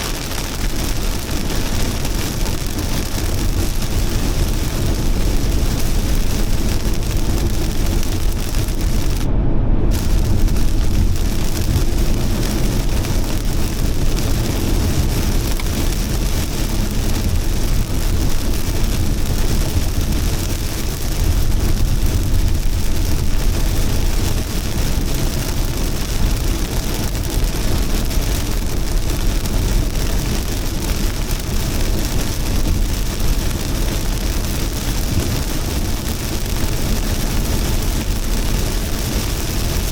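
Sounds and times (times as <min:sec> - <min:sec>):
deep low rumble: 0:00.0 - 0:37.4
heavy rain hissing: 0:00.0 - 0:39.9.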